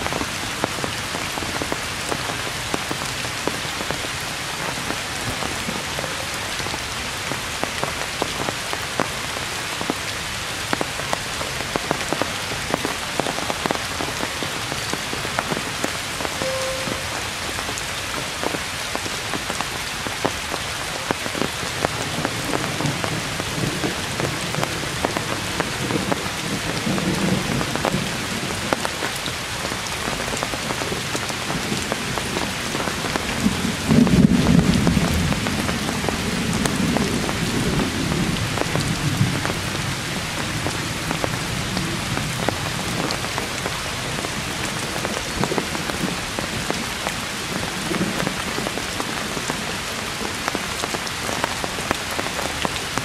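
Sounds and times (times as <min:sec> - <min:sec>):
heavy rain on foliage: 0:00.0 - 0:53.0.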